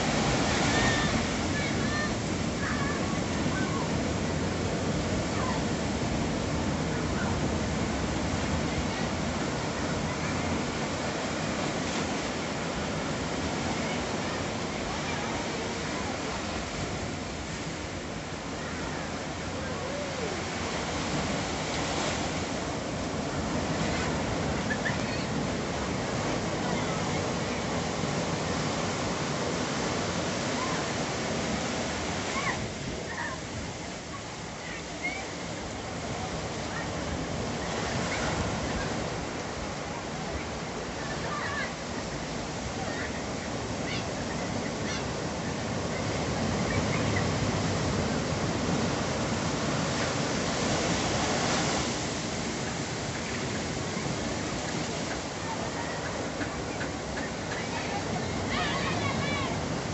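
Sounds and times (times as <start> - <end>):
ocean surf breaking: 0.0 - 59.9.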